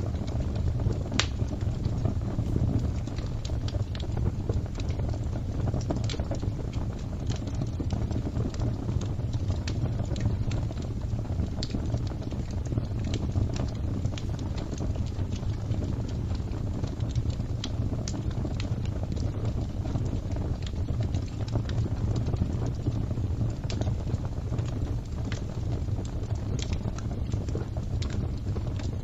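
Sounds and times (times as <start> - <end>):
fire crackling: 0.0 - 29.0.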